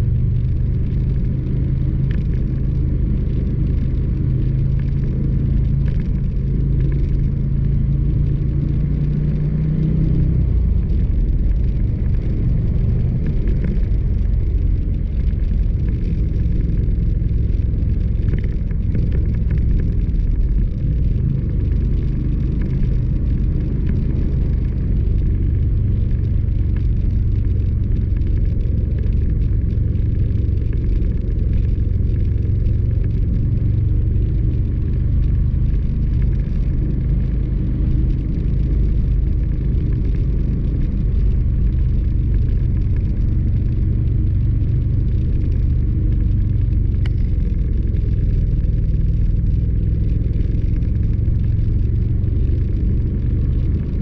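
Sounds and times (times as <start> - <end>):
vehicle driving on gravel: 0.0 - 54.0.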